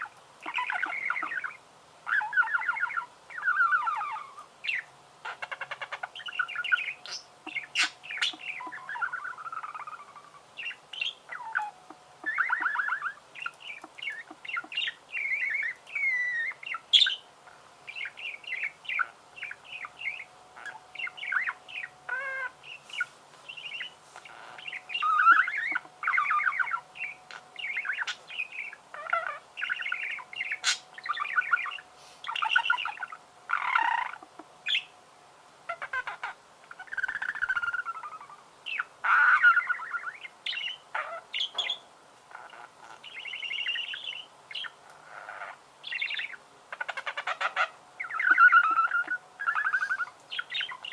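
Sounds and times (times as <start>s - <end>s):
budgerigars warbling and chattering: 0.0s - 34.9s, 35.7s - 50.9s.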